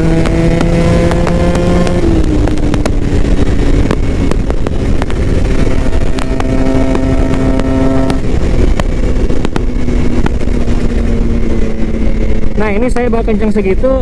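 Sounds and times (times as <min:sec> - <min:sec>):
motorcycle engine running: 0:00.0 - 0:14.0
wind rumble on microphone: 0:00.0 - 0:14.0.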